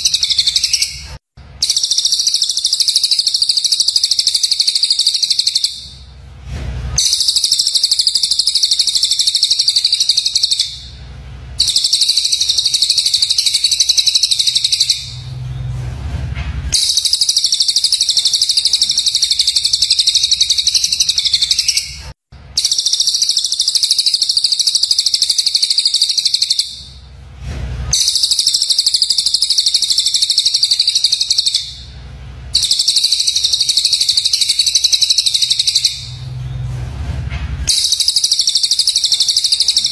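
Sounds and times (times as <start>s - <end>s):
harsh high-pitched birdsong: 0.0s - 6.2s, 7.0s - 15.9s, 16.7s - 27.1s, 27.9s - 36.8s, 37.6s - 39.9s.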